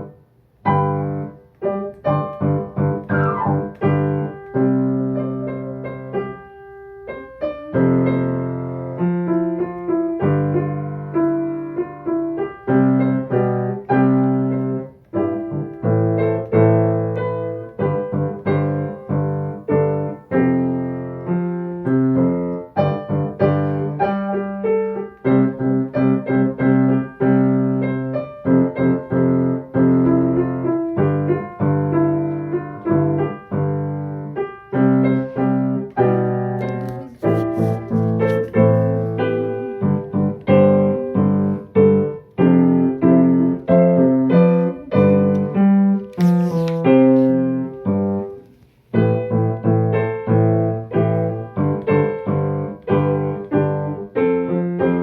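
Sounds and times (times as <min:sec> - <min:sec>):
solo piano pop arrangement: 0:00.0 - 0:55.0.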